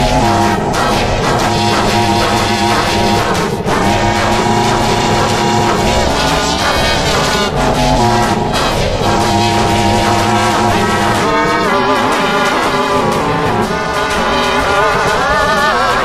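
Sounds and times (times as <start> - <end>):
distorted pitch-shifted brass music: 0.0 - 16.0.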